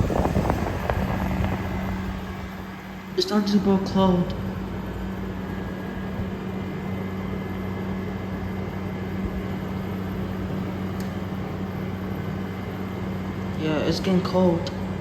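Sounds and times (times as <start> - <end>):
air conditioner compressor hum: 0.0 - 15.0
fan airflow rushing: 0.0 - 15.0.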